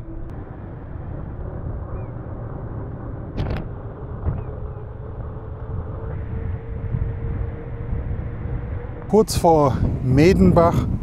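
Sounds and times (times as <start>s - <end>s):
bicycle road noise: 0.0s - 11.0s
faint whine rising in pitch: 0.0s - 11.0s
wind rumbling on microphone: 0.0s - 11.0s.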